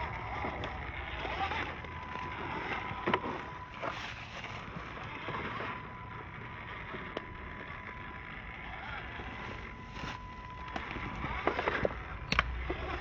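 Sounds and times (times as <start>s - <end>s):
rc car motor and gears whining: 0.0s - 13.0s.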